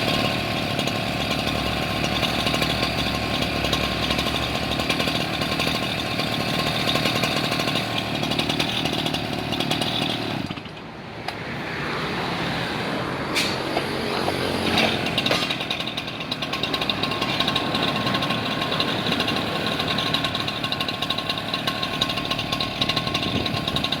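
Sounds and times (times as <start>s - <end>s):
cut-off saw engine revving: 0.0s - 10.7s, 11.4s - 24.0s.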